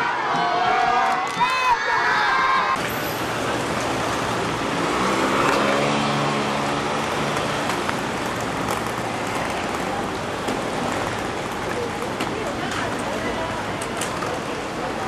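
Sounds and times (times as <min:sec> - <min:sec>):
passing vehicles: 0:02.7 - 0:15.0.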